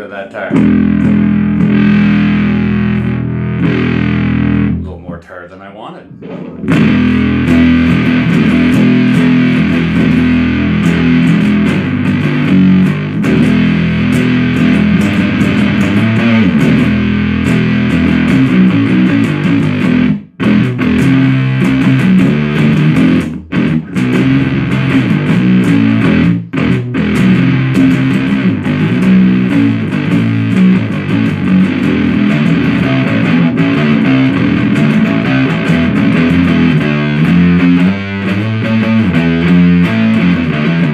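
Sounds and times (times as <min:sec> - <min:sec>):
fuzz-distorted electric guitar riffing: 0:00.0 - 0:40.9.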